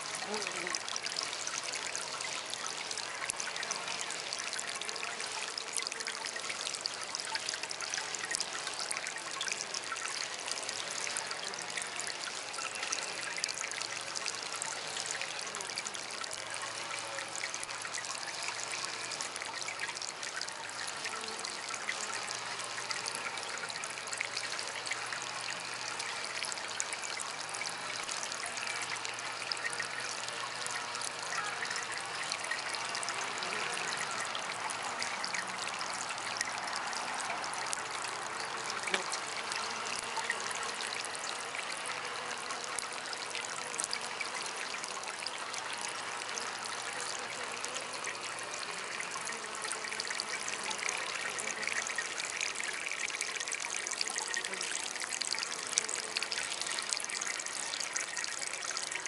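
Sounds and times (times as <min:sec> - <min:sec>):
water fountain trickling: 0:00.0 - 0:59.0.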